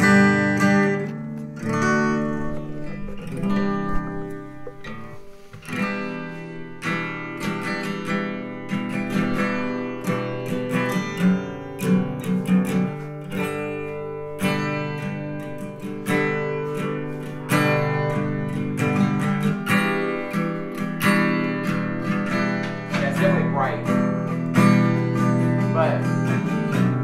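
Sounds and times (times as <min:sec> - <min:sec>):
acoustic guitar through speaker: 0:00.0 - 0:27.0.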